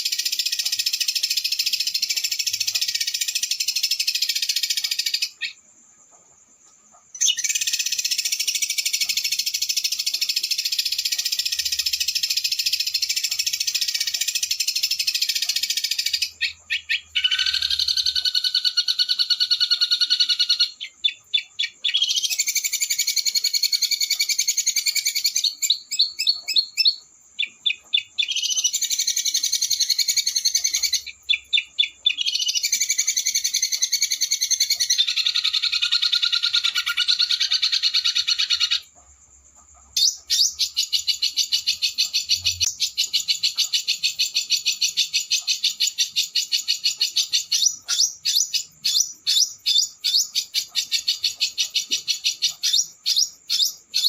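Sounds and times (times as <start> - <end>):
songbird trilling: 7.0 - 39.0, 39.9 - 54.0.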